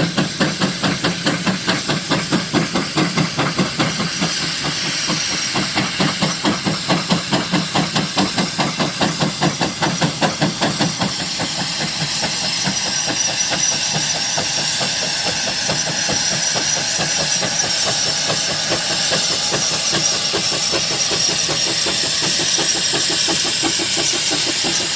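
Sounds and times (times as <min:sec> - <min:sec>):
steam engine chuffing: 0:00.0 - 0:24.9
steam hiss: 0:00.0 - 0:24.9.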